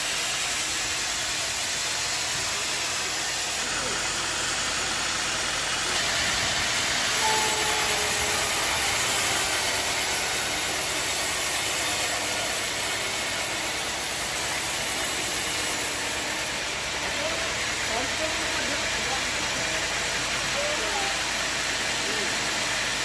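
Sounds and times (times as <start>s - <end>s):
band saw cutting log: 0.0s - 23.0s.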